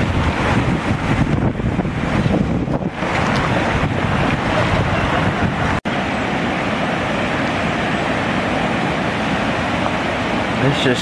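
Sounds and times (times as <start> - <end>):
river rushing in flood: 0.0 - 11.0.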